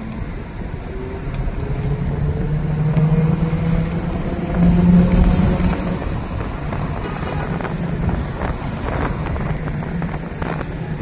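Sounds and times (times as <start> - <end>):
bus engine drone: 0.0 - 11.0
road noise: 0.0 - 11.0.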